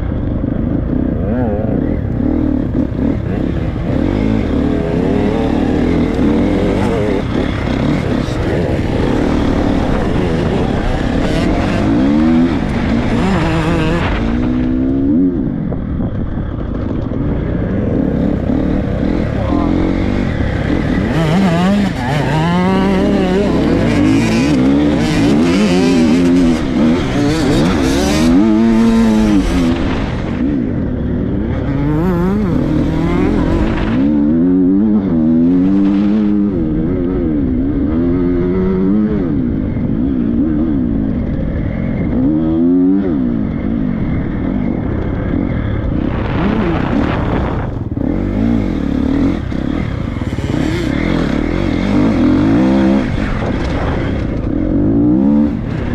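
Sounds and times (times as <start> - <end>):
motocross bike engine revving: 0.1 - 15.6, 16.4 - 55.9.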